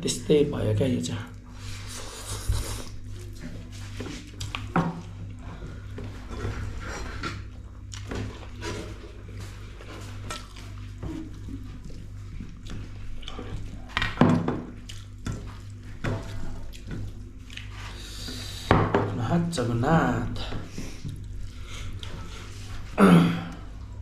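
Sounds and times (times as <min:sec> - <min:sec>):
steady low hum: 0:00.0 - 0:24.0
hand mixing rice with broth: 0:01.3 - 0:23.0.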